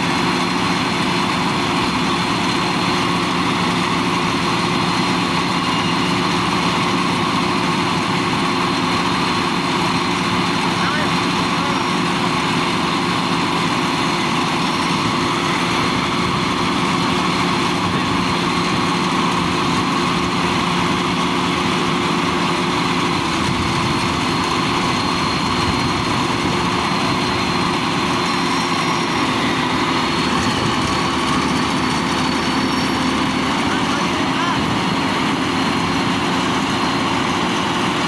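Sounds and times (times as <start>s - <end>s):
combine harvester engine drone: 0.0s - 38.0s.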